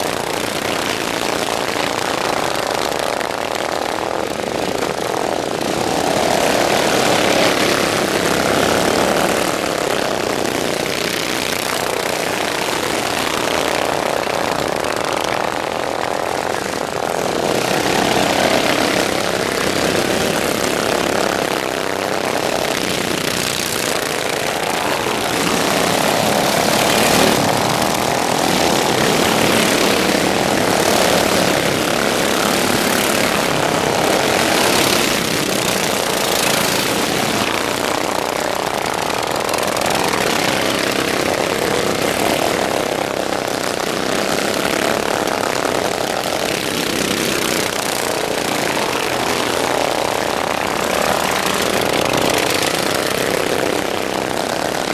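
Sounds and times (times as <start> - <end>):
racing lawnmower engines: 0.0 - 54.9.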